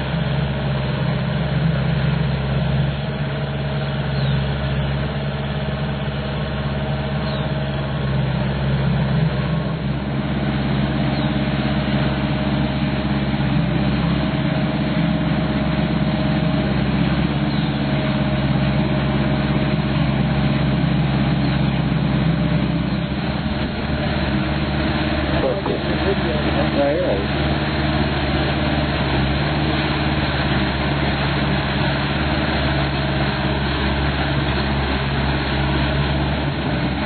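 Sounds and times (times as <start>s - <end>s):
weed harvester engine running: 0.0s - 37.0s.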